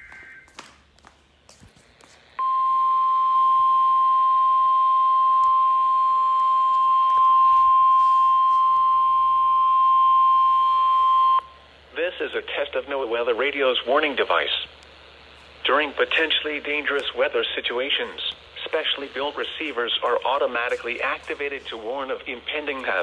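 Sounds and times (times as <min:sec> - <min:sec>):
steady alarm tone: 0:02.4 - 0:14.7, 0:15.3 - 0:23.0.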